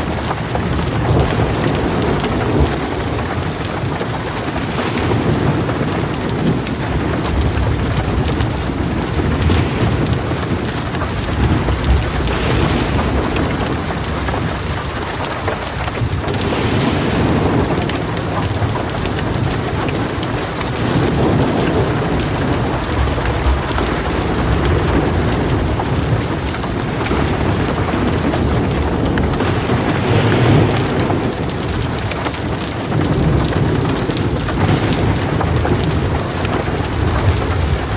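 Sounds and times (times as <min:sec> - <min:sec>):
heavy rain on a metal roof: 0:00.0 - 0:37.9
low thunder rumbling: 0:00.0 - 0:37.9.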